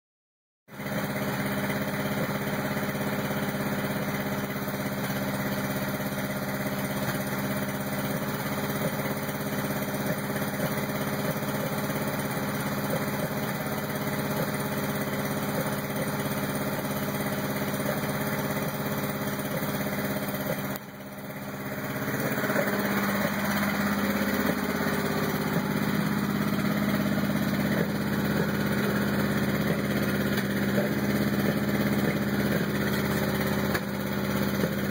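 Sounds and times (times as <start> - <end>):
car engine idling roughly: 0.7 - 34.9.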